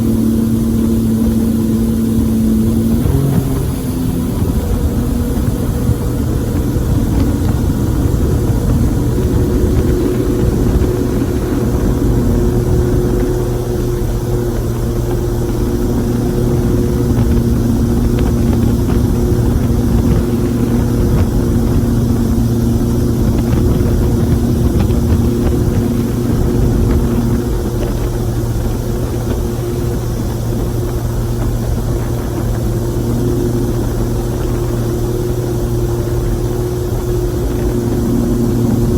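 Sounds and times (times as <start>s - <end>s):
motorboat engine running: 0.0s - 38.9s.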